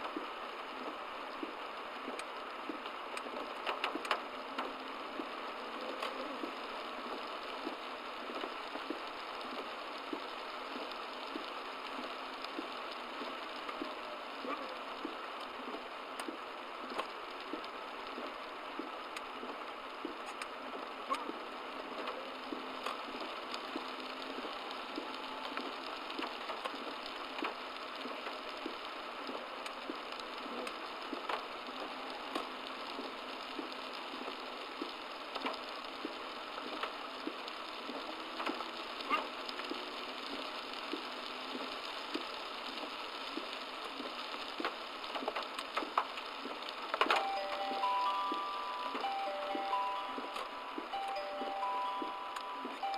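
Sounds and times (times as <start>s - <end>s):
heavy rain on a car: 0.0s - 52.9s
raindrops ticking: 0.0s - 52.9s.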